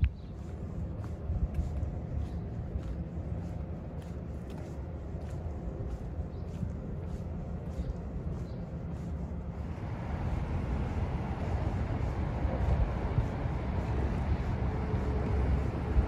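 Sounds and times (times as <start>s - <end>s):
low traffic rumble: 0.0s - 16.0s
hiss of passing traffic: 0.4s - 16.0s.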